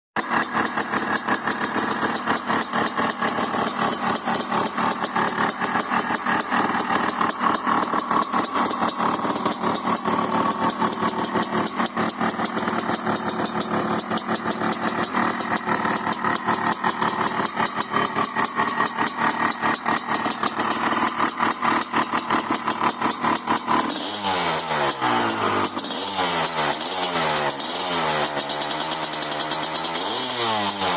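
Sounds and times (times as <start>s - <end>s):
two-stroke engine idling: 0.2s - 30.9s.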